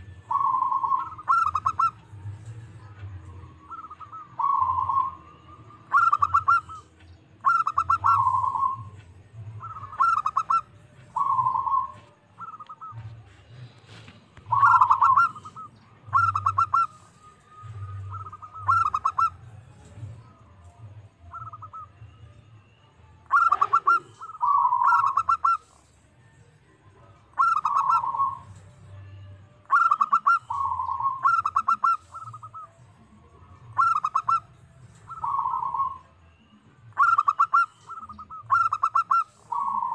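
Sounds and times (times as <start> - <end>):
dove cooing: 0.0 - 20.5, 23.2 - 26.0, 26.8 - 29.0, 29.6 - 39.9.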